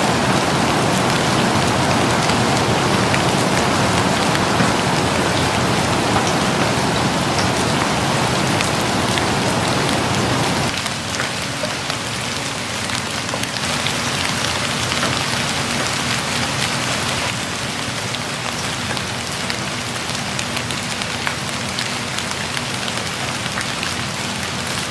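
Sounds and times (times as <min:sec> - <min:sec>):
raindrops ticking: 0:00.0 - 0:24.6
steady rain falling: 0:00.0 - 0:24.9.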